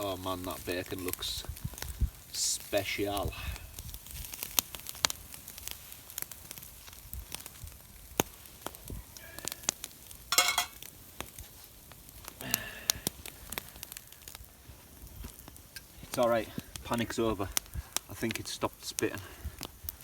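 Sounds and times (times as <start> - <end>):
bacon sizzling in a pan: 0.0 - 20.0
campfire crackles and pops: 0.0 - 20.0.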